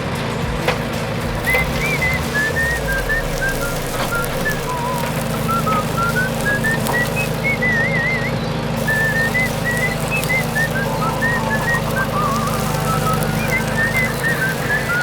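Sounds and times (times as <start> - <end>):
whistled tune: 0.0 - 15.0.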